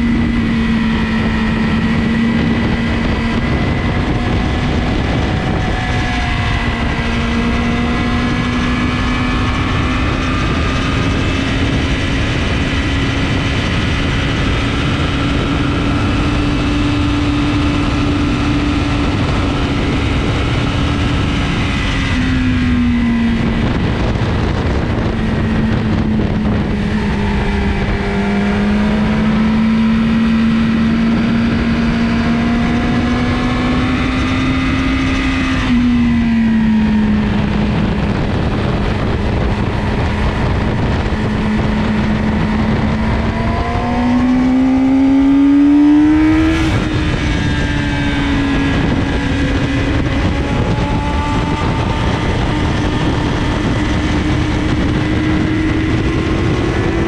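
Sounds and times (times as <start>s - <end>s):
motorcycle engine revving high: 0.0s - 57.0s
wind rushing past microphone: 0.0s - 57.0s.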